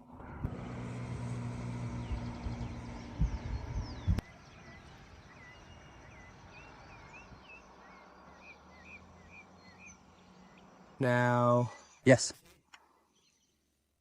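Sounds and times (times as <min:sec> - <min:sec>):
soft outdoor hiss: 0:00.0 - 0:14.0
faint bird chirps: 0:01.9 - 0:12.2, 0:12.8 - 0:13.8.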